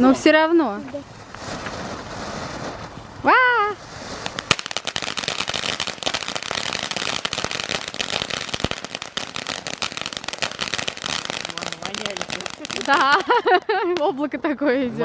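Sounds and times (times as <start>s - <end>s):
firework rapid crackles: 0.7s - 14.4s.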